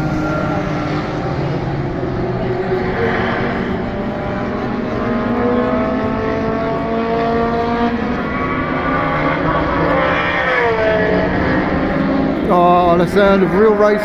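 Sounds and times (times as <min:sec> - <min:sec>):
racing car engines revving: 0:00.0 - 0:14.0.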